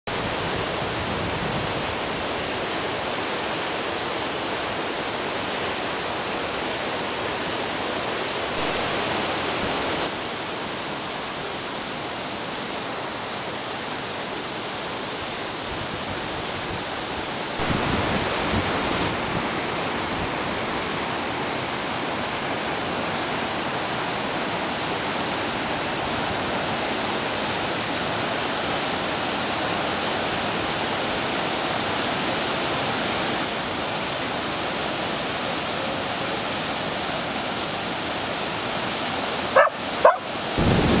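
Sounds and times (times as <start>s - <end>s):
waterfall rushing: 0.1s - 41.0s.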